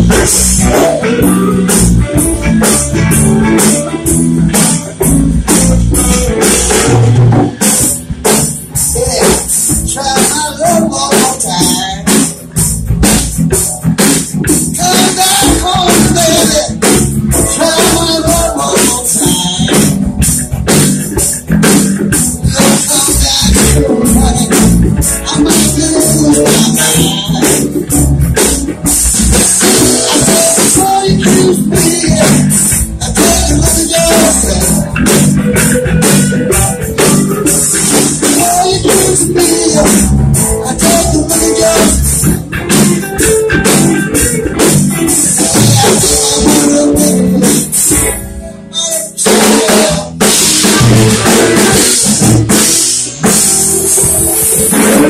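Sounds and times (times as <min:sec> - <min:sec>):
electric blues band playing: 0:00.0 - 0:55.0.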